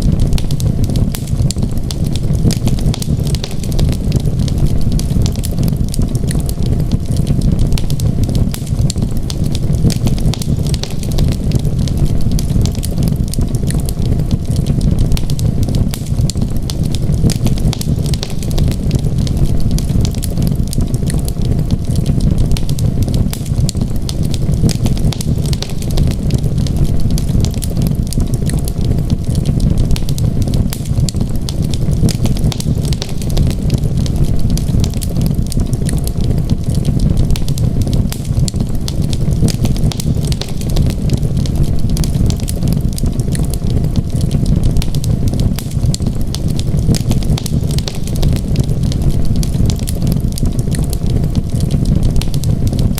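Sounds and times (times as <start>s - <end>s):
low fire rumble: 0.0s - 52.9s
wood fire crackling: 0.0s - 52.9s.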